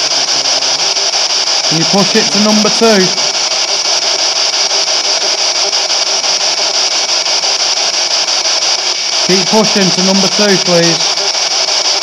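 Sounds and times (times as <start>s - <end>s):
fast regular clicks: 0.0s - 12.0s
radio static hiss: 0.0s - 12.0s.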